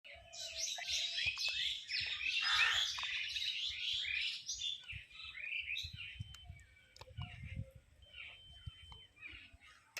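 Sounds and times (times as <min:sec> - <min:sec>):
small birds chirping: 0:00.1 - 0:09.9.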